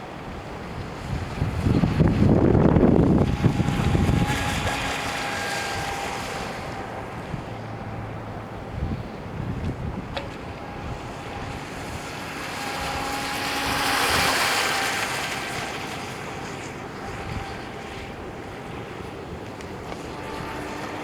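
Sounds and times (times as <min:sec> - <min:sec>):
electric model boat motor whine: 0:00.0 - 0:21.0
wind buffeting microphone: 0:00.0 - 0:21.0.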